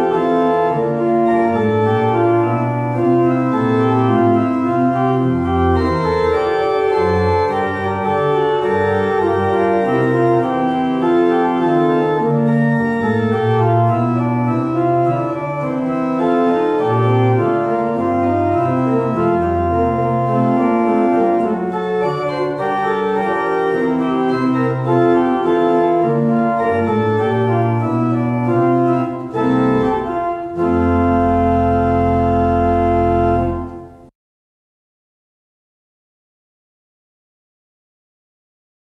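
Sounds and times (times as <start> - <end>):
organ playing chords: 0.0 - 34.1.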